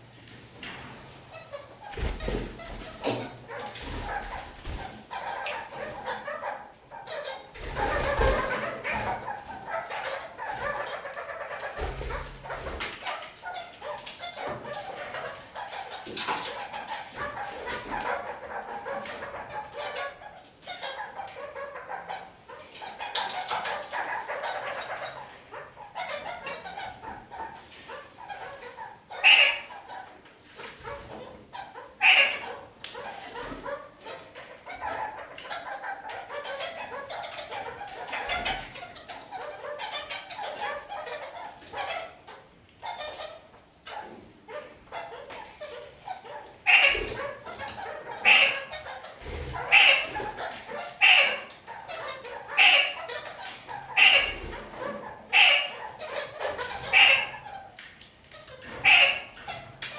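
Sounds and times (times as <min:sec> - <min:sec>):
parakeets chattering: 0:01.2 - 0:59.9
loud sharp bird calls: 0:01.3 - 0:30.1, 0:30.8 - 0:59.9.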